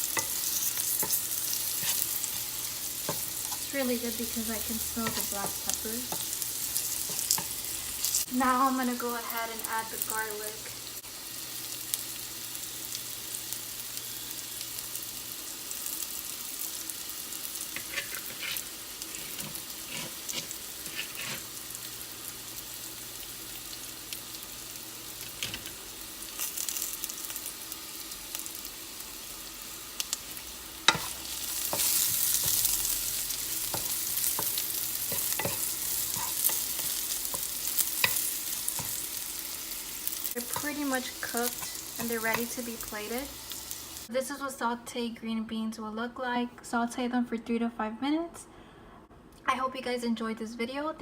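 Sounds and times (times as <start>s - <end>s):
beans sizzling in a skillet: 0.0s - 44.1s.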